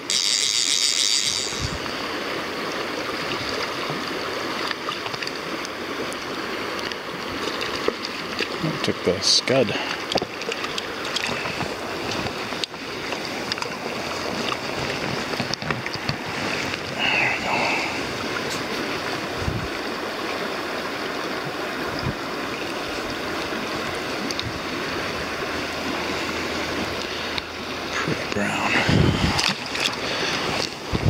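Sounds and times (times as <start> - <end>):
river rushing over rocks: 1.6 - 31.0.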